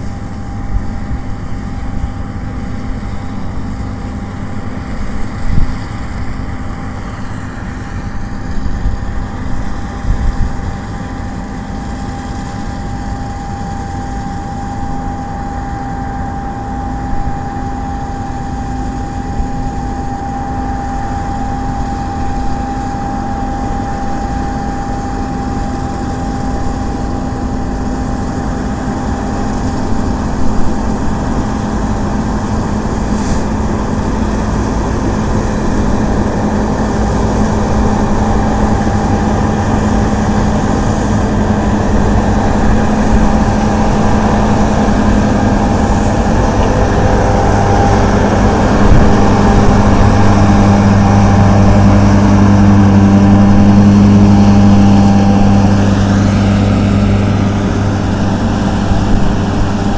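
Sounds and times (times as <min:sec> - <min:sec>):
combine harvester engine drone: 0:00.0 - 0:59.9
machinery whine: 0:00.0 - 0:59.9.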